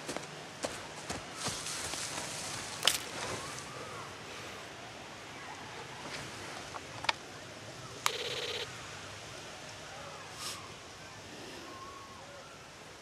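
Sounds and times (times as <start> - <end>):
wind in trees: 0.0 - 13.0.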